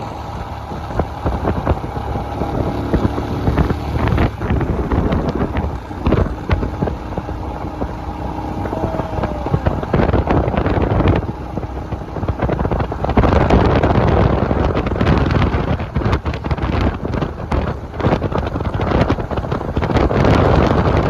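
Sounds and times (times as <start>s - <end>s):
motorcycle engine rumble: 0.0s - 21.0s
wind buffeting microphone: 0.0s - 21.0s.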